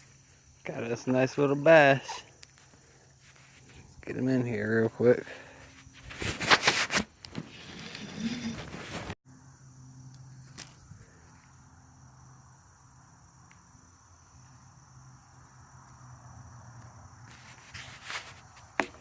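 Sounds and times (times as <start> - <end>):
insects trilling: 0.0 - 6.4, 7.2 - 19.0.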